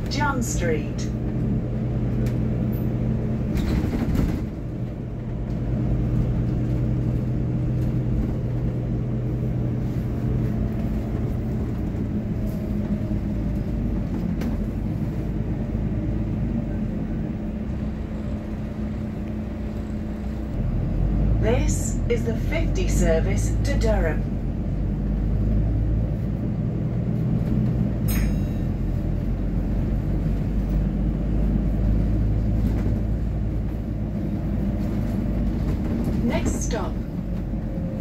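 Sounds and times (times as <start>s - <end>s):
bus engine hum: 0.0s - 38.0s.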